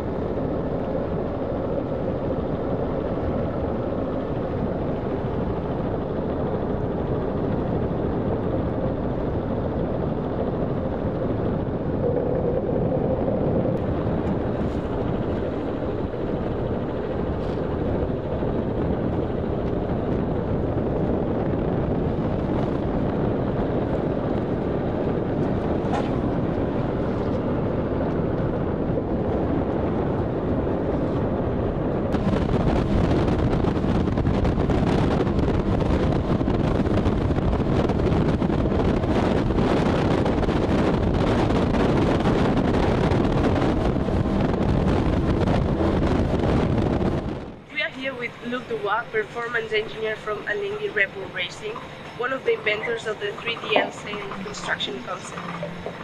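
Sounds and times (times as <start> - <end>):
outboard motors running: 0.0 - 56.0
wind on microphone: 0.0 - 56.0.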